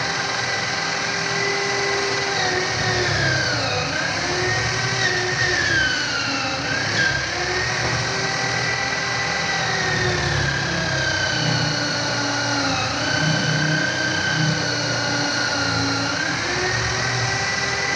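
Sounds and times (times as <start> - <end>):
electric drill motor whine: 0.0 - 17.9.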